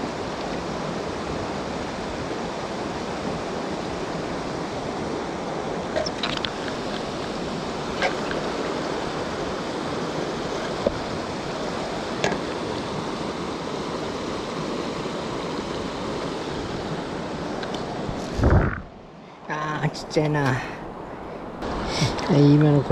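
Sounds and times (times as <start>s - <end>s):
river water rushing: 0.0s - 22.9s.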